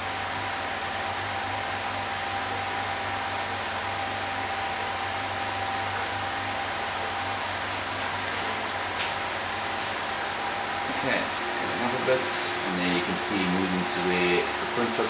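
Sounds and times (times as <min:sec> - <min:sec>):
cooling fans whirring: 0:00.0 - 0:15.0
thin whine: 0:00.0 - 0:15.0.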